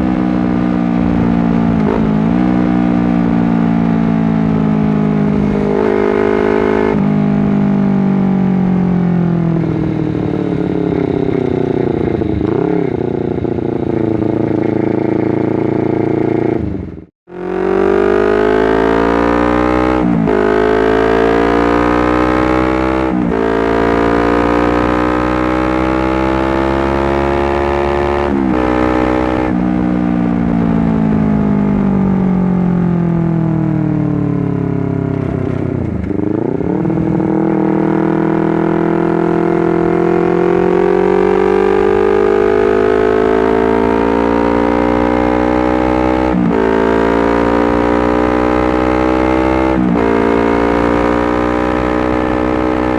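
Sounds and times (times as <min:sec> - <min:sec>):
motorcycle engine revving through gears: 0:00.0 - 0:52.9.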